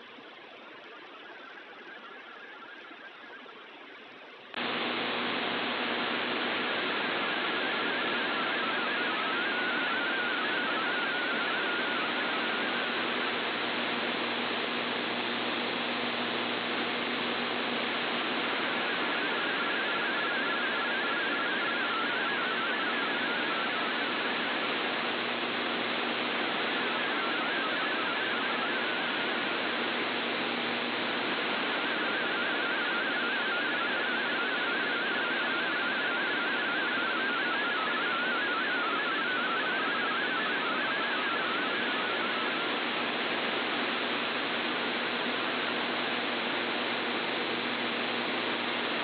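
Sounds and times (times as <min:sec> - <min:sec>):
radio hiss and static: 0:04.6 - 0:49.0.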